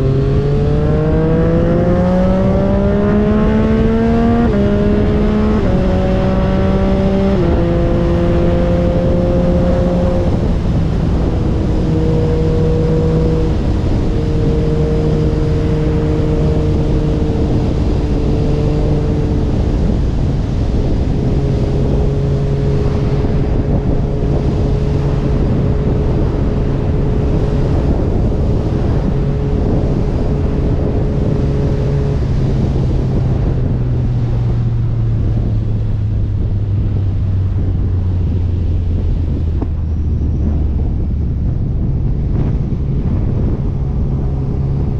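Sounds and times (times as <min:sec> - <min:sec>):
motorcycle engine running: 0:00.0 - 0:44.9
wind rush on microphone: 0:00.0 - 0:44.9.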